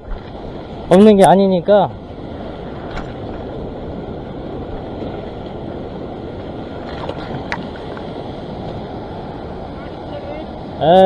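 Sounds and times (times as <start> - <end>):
surf washing over rock: 0.0 - 11.0
wind on microphone: 0.0 - 11.0.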